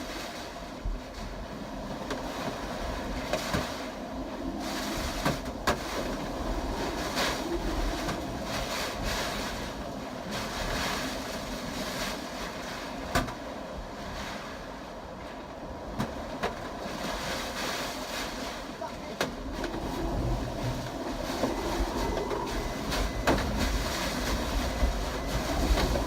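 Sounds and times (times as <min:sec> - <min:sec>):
strong wind gusts on microphone: 0:00.0 - 0:26.0.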